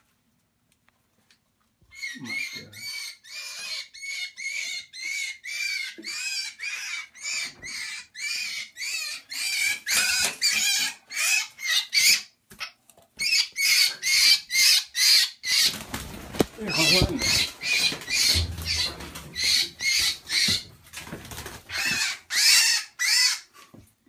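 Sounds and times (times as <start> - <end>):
birds giving harsh calls: 1.9 - 23.5.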